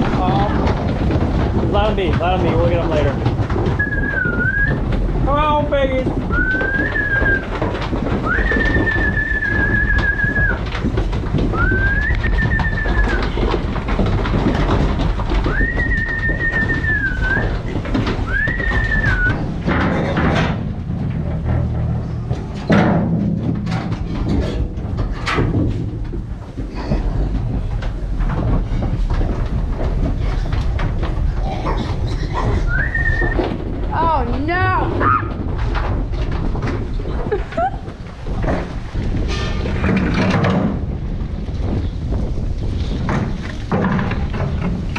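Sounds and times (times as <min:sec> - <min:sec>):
hooves knocking on trailer floor: 0:00.0 - 0:44.9
low steady rumble: 0:00.0 - 0:44.9.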